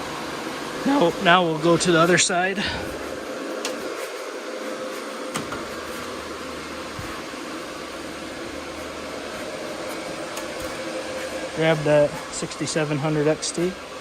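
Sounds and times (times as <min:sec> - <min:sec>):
cooling fans whirring: 0:00.0 - 0:14.0
faint constant hum: 0:00.0 - 0:14.0.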